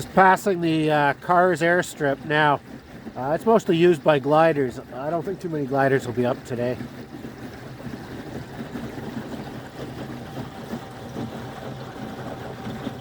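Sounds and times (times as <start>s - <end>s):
water lapping along hull: 0.0s - 13.0s.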